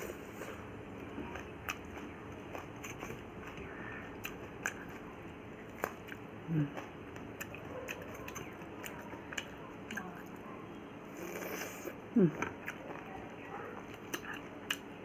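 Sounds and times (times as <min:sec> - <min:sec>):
person chewing and crunching: 0:00.0 - 0:10.4, 0:11.2 - 0:13.2, 0:13.8 - 0:15.0.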